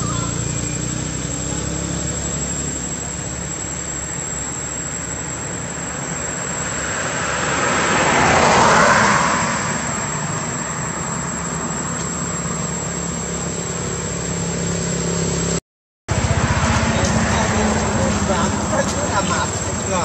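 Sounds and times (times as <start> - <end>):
vehicle passing: 0.0 - 20.0.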